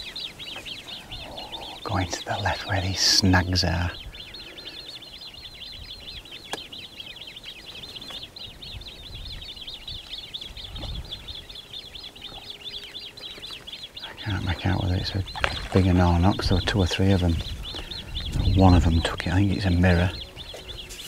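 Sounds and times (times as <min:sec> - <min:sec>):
songbird chirping: 0:00.0 - 0:21.0.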